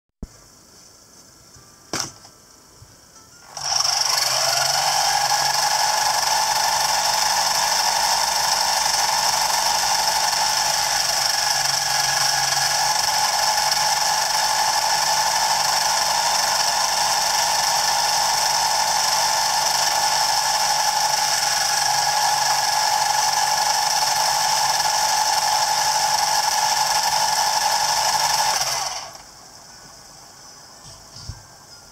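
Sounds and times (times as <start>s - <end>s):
model helicopter drive whining: 3.5s - 29.2s.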